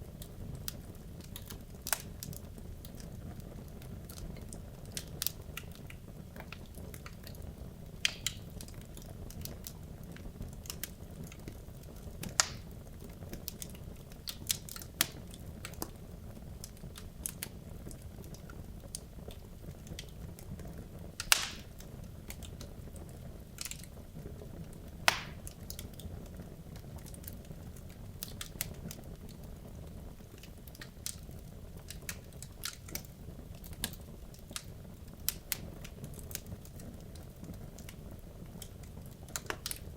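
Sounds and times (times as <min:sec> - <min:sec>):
burning wood crackling and popping: 0:00.0 - 0:39.9
fire rumbling in fireplace: 0:00.0 - 0:39.9.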